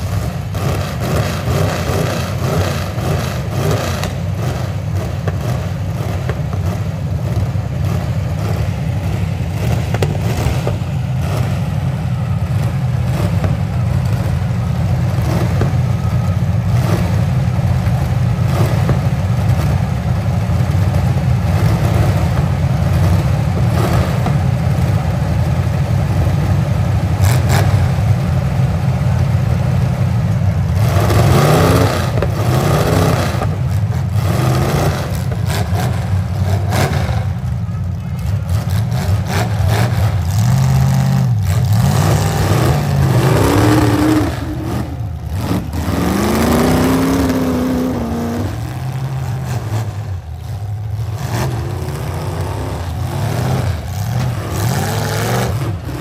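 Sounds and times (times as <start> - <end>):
car engines rumbling and revving: 0.0 - 56.0.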